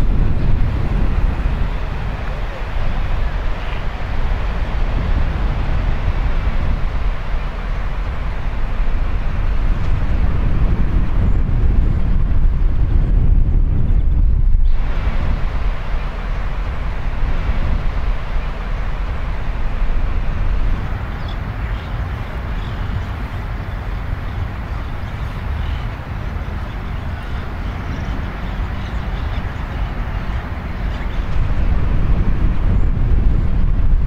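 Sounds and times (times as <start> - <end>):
outdoor ambient noise: 0.0 - 34.0
wind rumble on microphone: 0.0 - 34.0.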